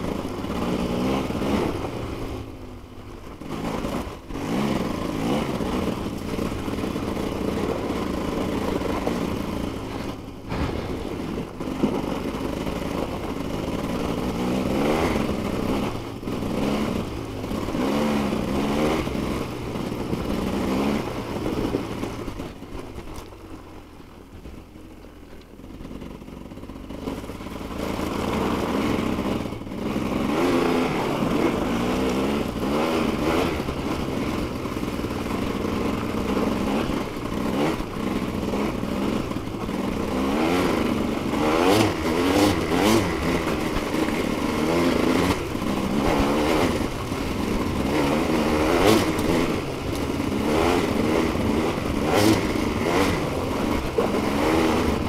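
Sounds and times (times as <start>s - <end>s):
dirt bike engine revving: 0.0s - 22.7s, 25.8s - 55.0s.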